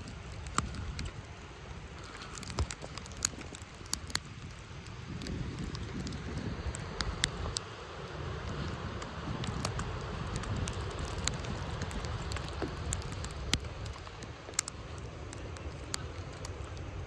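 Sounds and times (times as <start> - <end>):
sharp clicks and ticks: 0.0 - 1.2, 2.0 - 7.7, 9.4 - 16.9
wind rumbling on microphone: 0.0 - 17.0.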